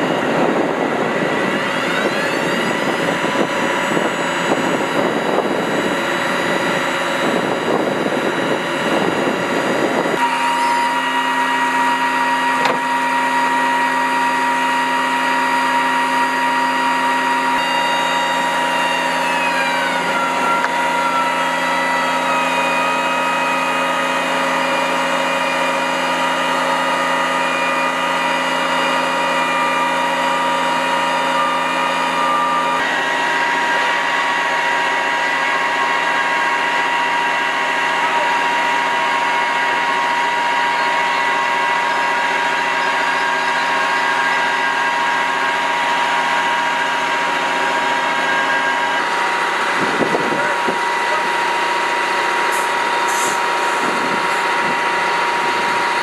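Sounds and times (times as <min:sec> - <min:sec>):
hoist machinery whining: 0:00.0 - 0:56.0.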